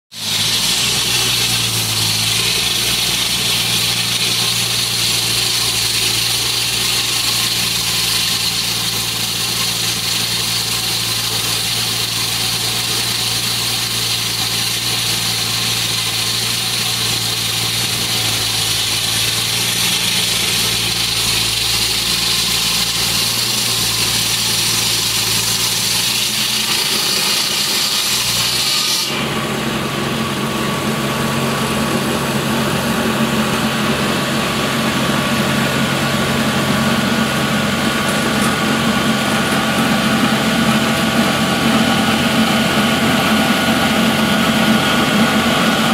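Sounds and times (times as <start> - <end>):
high blade cutting whine: 0.1 - 45.9
road saw engine running: 0.1 - 45.9.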